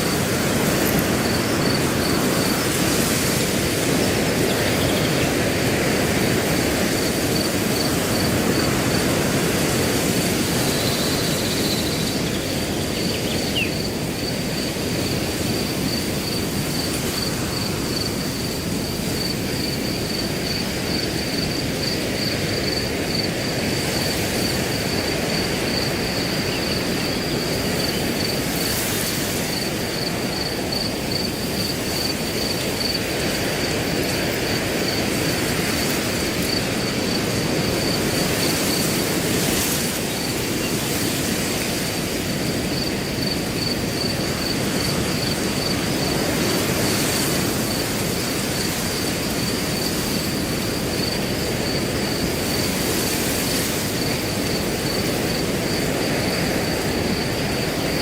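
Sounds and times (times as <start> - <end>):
cricket chirping: 0.0 - 58.0
wind through grass: 0.0 - 58.0.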